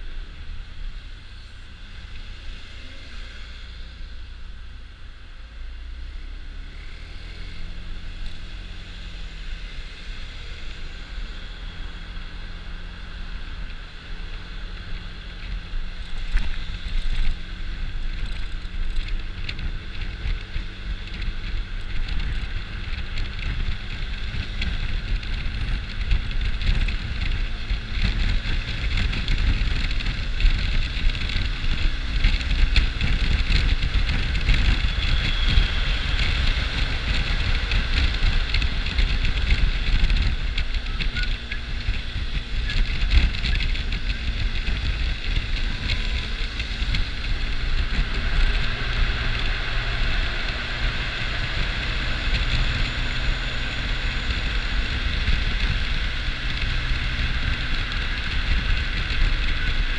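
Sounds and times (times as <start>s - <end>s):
passing traffic: 0.0s - 59.9s
wind rumble on microphone: 0.0s - 59.9s
scooter engine: 6.2s - 59.9s.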